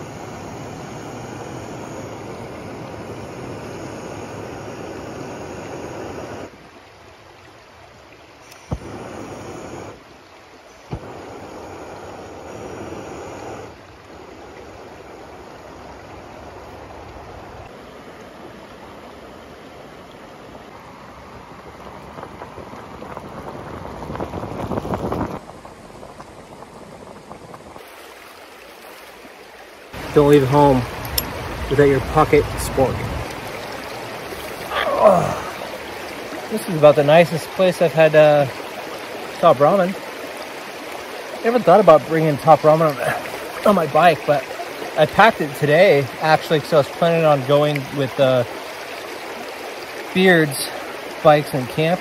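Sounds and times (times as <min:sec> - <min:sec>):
creek water rushing: 0:00.0 - 0:52.0.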